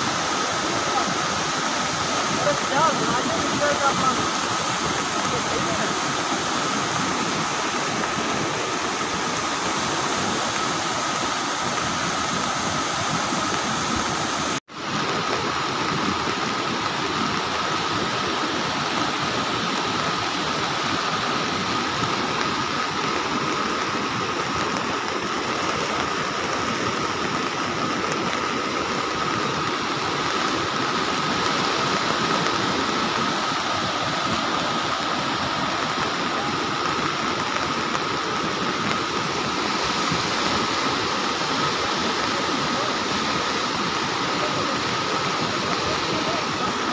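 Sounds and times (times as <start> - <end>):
river rushing: 0.0 - 46.9.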